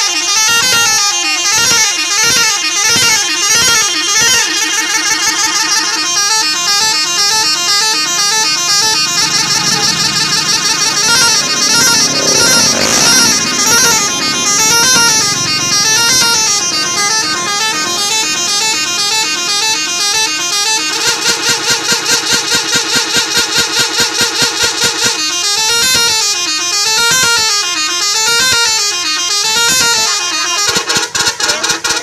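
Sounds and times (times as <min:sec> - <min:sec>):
multi-tone musical horn: 0:00.0 - 0:32.0.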